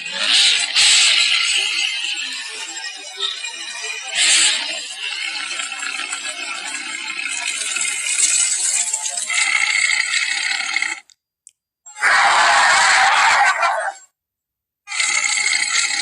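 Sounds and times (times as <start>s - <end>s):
dinosaur raspy rattle: 0.0s - 11.2s, 12.0s - 14.0s, 14.9s - 16.0s.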